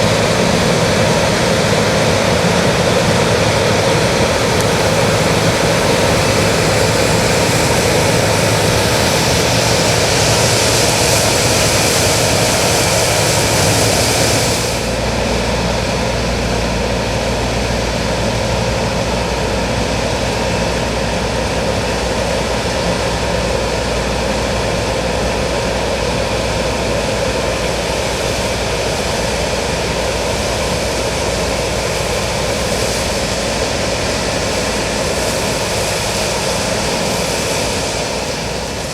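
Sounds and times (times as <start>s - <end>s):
combine harvester mechanical drone: 0.0s - 38.9s.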